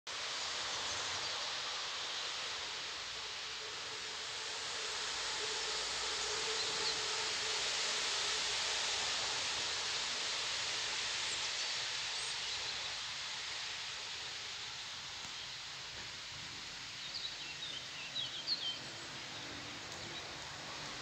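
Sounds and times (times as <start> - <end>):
outdoor background hiss: 0.1 - 21.0.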